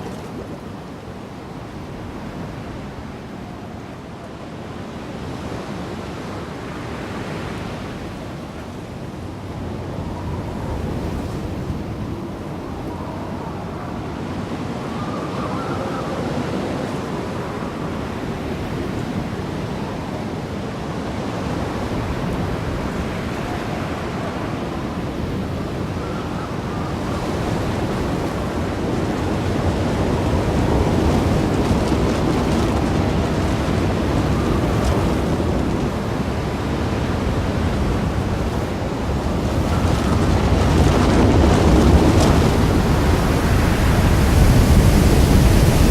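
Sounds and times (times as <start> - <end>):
wind: 0.0 - 45.9
surf rushing: 5.1 - 45.9.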